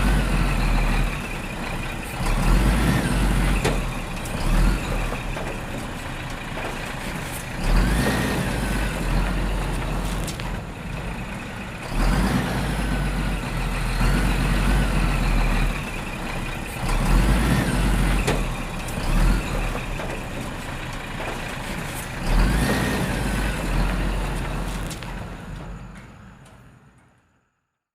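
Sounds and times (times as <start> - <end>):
machinery whine: 0.0 - 27.5
heavy machinery engine running: 0.0 - 27.6.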